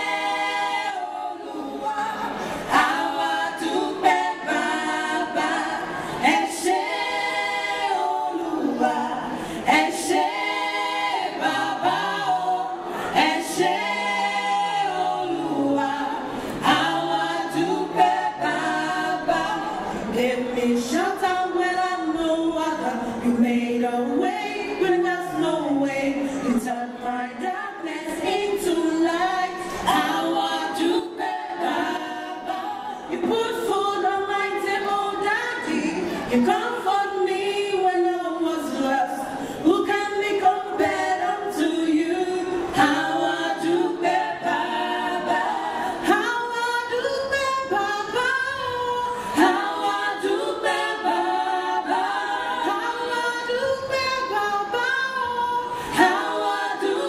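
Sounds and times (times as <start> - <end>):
women singing a cappella: 0.0 - 57.0.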